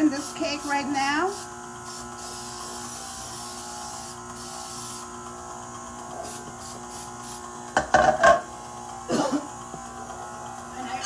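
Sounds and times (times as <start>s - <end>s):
cooking spray hissing: 0.0s - 9.7s
electric motor hum: 0.0s - 11.0s.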